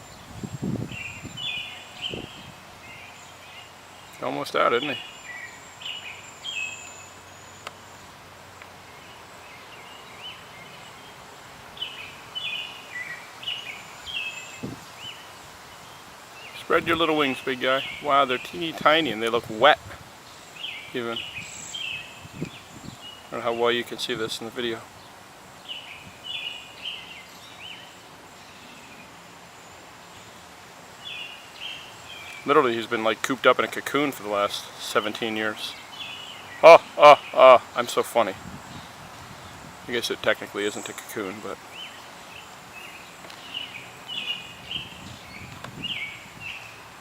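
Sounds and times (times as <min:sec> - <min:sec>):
bird chirping: 0:00.0 - 0:30.4, 0:31.0 - 0:33.0, 0:33.6 - 0:47.0.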